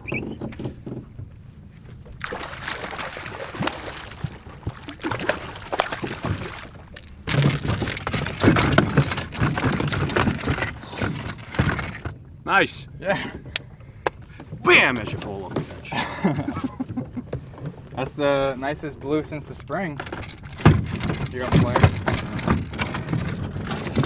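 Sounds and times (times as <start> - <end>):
water splashing and sloshing: 0.0 - 12.4, 13.8 - 24.0.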